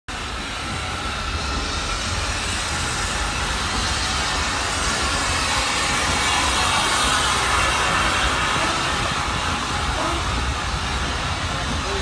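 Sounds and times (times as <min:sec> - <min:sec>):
steam locomotive rumbling: 0:00.1 - 0:12.0.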